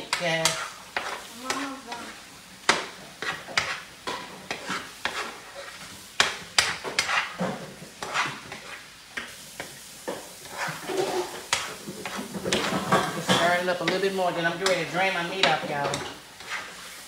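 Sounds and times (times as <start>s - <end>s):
meat sizzling: 0.0s - 17.0s
utensil scraping in a skillet: 0.0s - 17.0s.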